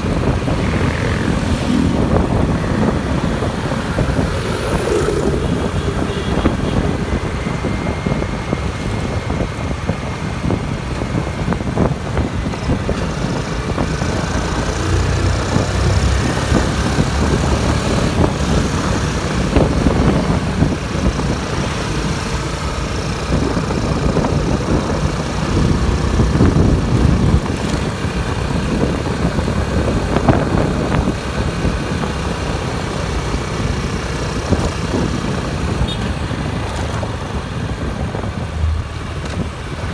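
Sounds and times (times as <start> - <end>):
passing motorcycles and cars: 0.0 - 39.9
vehicle engine and road noise: 0.0 - 39.9.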